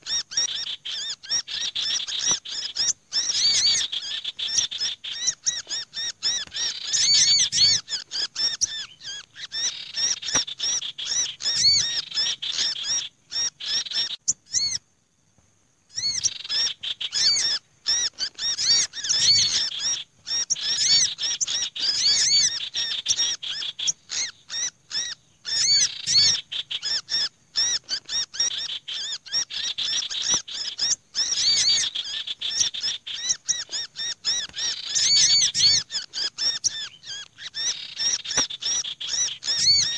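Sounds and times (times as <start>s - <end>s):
birds chirping and rattling: 0.0s - 14.8s, 15.9s - 39.9s.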